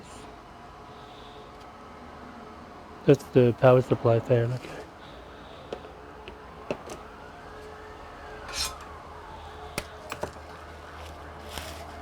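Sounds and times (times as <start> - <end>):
computer fan humming: 0.0 - 12.0
faint distant siren wailing: 0.4 - 12.0.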